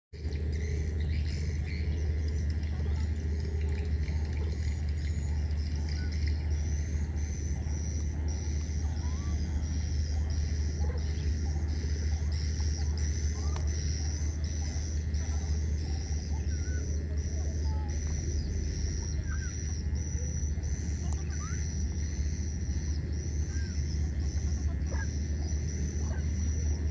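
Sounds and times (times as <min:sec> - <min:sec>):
high-pitched pulsing call: 0:00.2 - 0:26.9.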